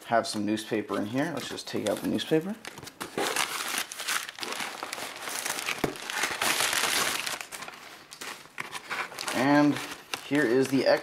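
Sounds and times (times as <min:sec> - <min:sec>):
newspaper crinkling and rustling: 0:00.4 - 0:11.0.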